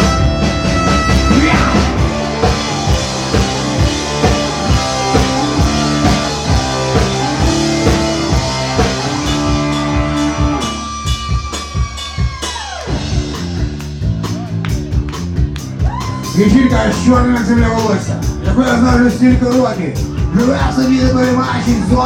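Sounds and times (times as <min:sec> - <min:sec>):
electric guitar: 0:00.0 - 0:19.0
bass guitar: 0:00.0 - 0:22.0
drum kit beat: 0:00.0 - 0:22.0.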